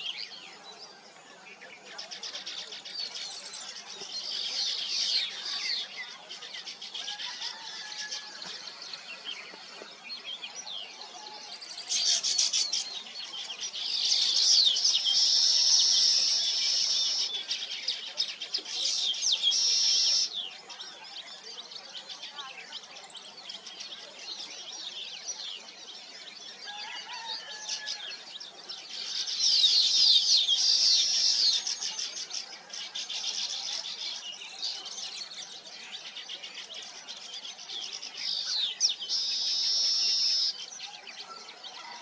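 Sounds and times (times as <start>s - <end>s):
weaver birds chattering: 0.0s - 42.0s.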